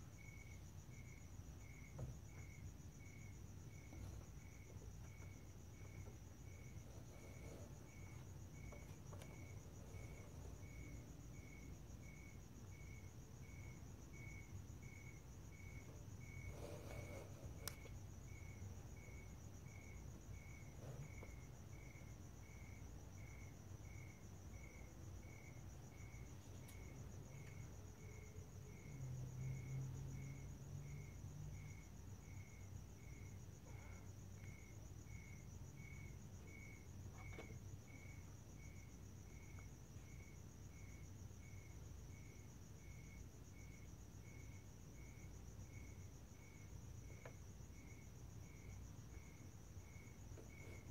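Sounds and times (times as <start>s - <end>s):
faint crickets chirping: 0.0s - 50.9s.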